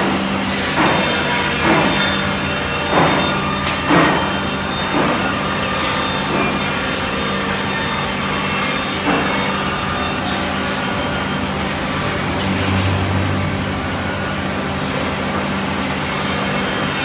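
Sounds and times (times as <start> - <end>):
band saw cutting wood: 0.0 - 17.0.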